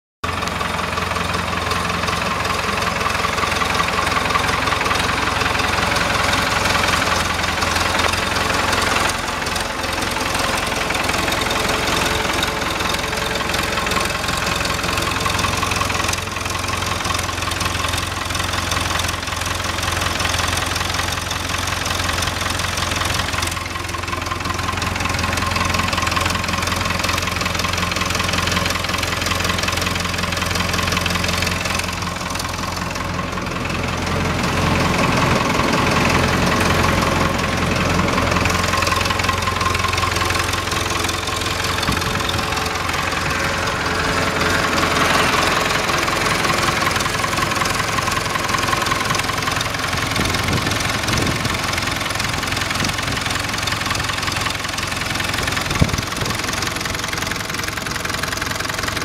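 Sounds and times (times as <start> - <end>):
diesel tractor engine running: 0.2 - 59.0.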